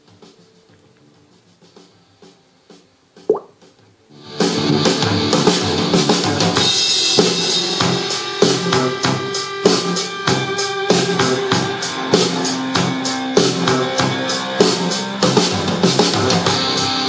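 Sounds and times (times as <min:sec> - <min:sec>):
music with drums and bass: 0:00.0 - 0:17.0.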